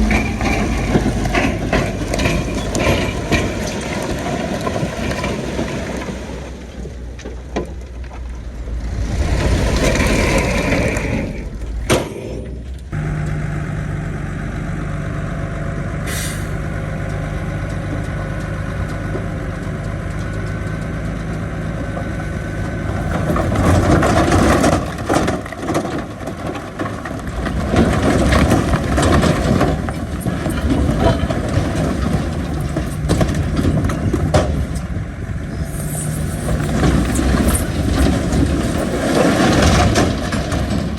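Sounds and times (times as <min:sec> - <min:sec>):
rough clattering work noise: 0:00.0 - 0:13.0, 0:17.0 - 0:40.9
heavy diesel machinery running: 0:00.0 - 0:40.9.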